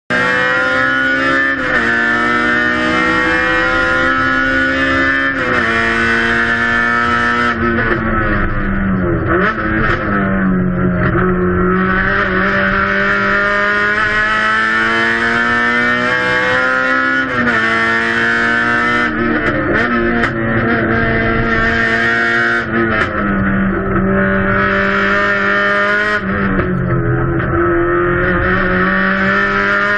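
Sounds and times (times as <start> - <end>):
race car engine revving: 0.1 - 29.9.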